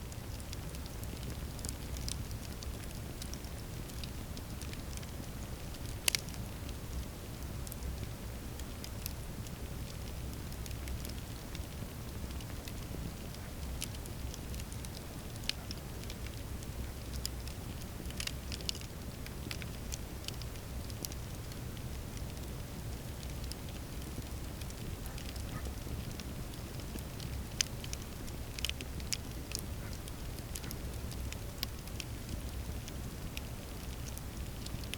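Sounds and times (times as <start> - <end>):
campfire low rumble: 0.0 - 34.9
fire crackles and pops: 0.0 - 34.9.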